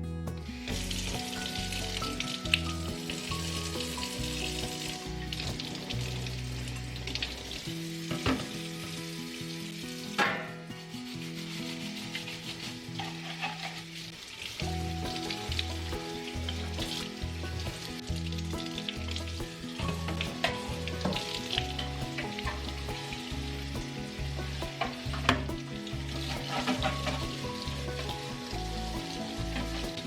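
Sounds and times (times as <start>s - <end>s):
soft background music: 0.0s - 14.0s, 14.6s - 30.0s
food sizzling in a frying pan: 0.7s - 30.0s.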